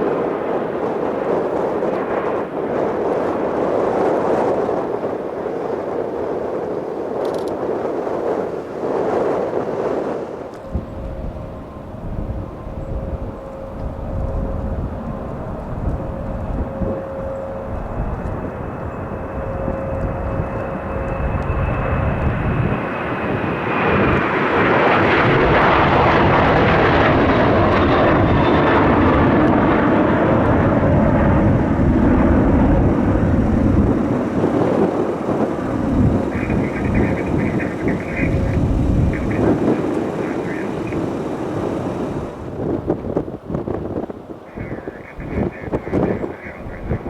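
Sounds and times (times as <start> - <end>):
jet airliner engines passing: 0.0 - 47.0.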